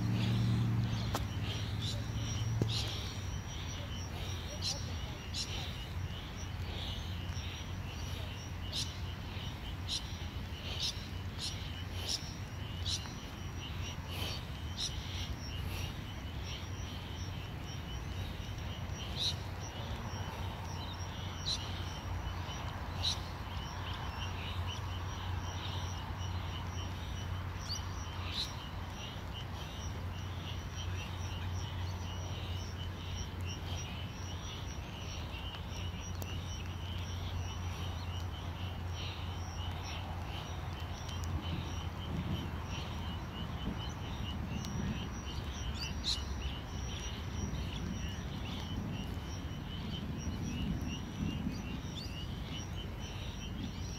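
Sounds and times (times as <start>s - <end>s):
low steady rumble: 0.0s - 53.1s
bird chirps: 0.0s - 53.9s
insects chirping: 0.0s - 53.9s.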